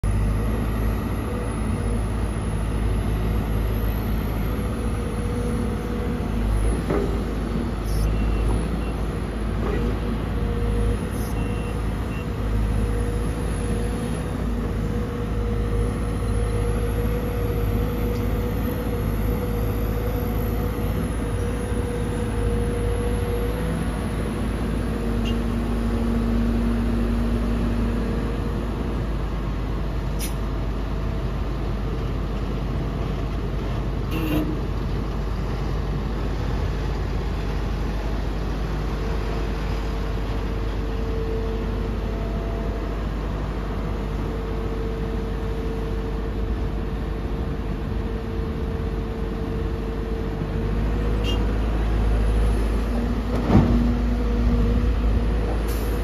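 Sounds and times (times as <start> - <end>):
excavator diesel drone: 0.0 - 56.0.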